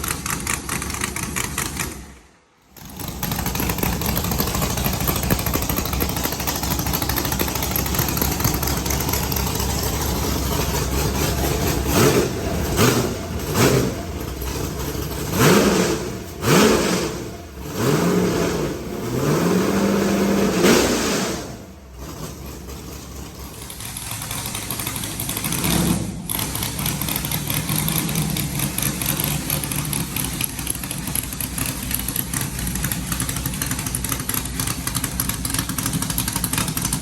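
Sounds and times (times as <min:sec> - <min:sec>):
engine idling and revving: 0:00.0 - 0:37.0.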